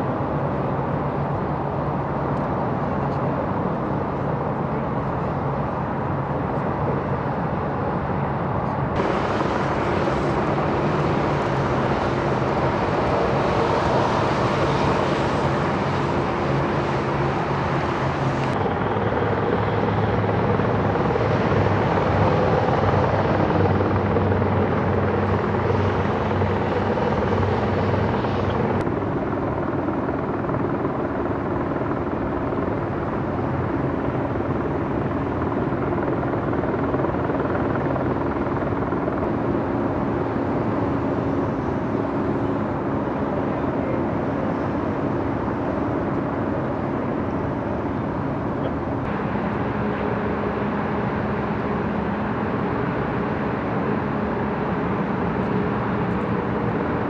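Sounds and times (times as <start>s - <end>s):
helicopter hovering: 0.0s - 57.0s.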